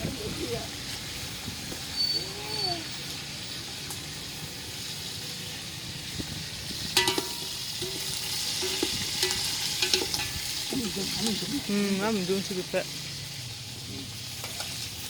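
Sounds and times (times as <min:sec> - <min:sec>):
food sizzling in hot oil: 0:00.6 - 0:15.0.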